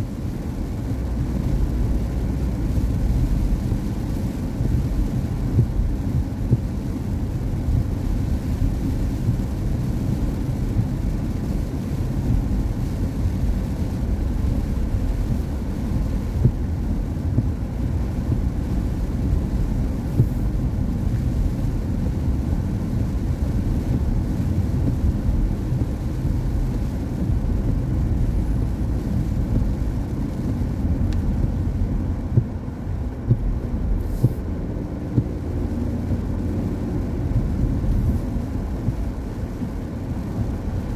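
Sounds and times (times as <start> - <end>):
tyre and road noise: 0.0 - 40.9.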